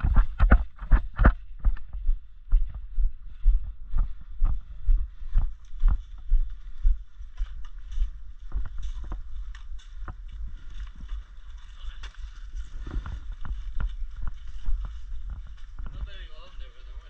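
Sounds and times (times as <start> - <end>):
low rumble on microphone: 0.0 - 17.0.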